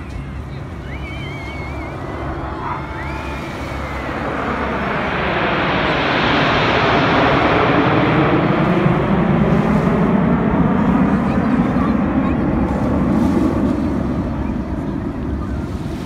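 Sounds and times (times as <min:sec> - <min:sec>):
jet aircraft roaring overhead: 0:00.0 - 0:16.0.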